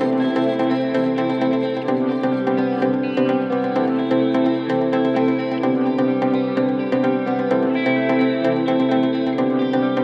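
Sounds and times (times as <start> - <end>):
gentle instrumental music with beat: 0.0 - 10.0.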